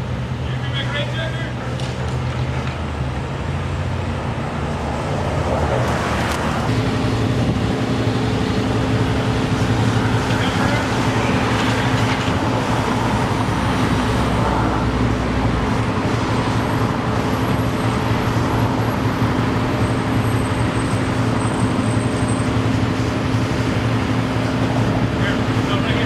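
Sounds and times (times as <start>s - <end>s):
loud engine drone: 0.0s - 26.0s.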